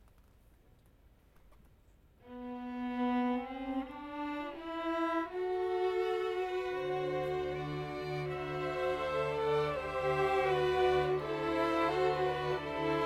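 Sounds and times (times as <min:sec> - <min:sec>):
string orchestra playing: 0:02.2 - 0:13.0.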